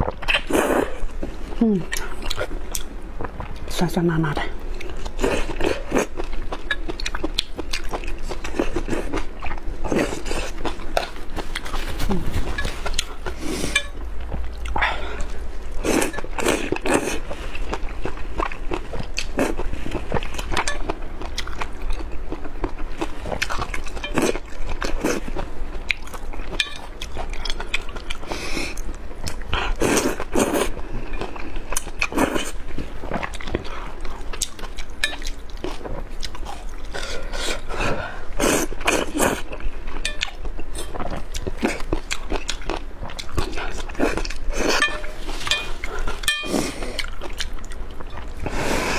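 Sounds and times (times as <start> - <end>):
slurping and chewing noodles: 4.8 - 48.9.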